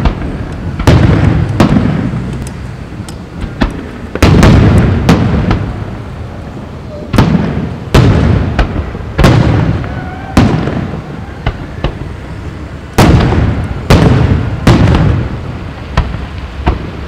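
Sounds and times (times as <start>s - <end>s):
light firework cracks: 0.0s - 6.0s, 7.0s - 12.2s, 12.9s - 17.0s.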